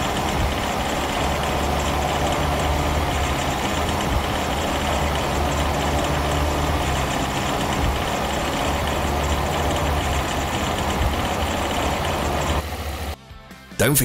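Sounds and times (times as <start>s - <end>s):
sharp metallic engine knock: 0.0s - 12.6s
car engine running: 0.0s - 13.2s.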